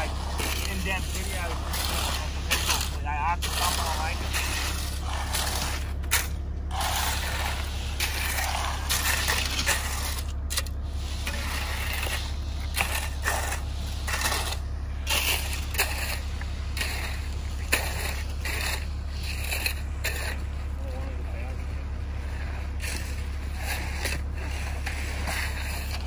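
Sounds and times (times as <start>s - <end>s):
screed board dragged across concrete: 0.0s - 20.5s, 22.3s - 26.0s
shovel scraping wet concrete: 0.0s - 26.0s.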